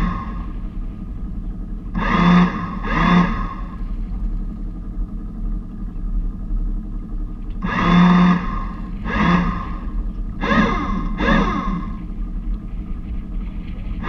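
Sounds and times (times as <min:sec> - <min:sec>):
bow thruster whine: 0:00.0 - 0:14.0
steady low hum: 0:00.0 - 0:14.0.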